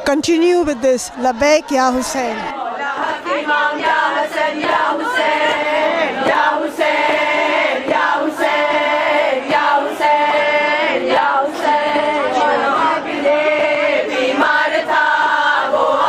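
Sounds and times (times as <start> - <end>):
women chanting in unison: 0.0 - 16.0.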